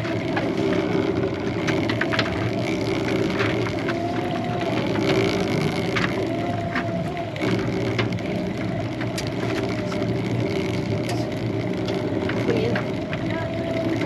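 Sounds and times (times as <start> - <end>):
boat motor running: 0.0 - 14.0
light clicks and crackles: 0.0 - 14.0.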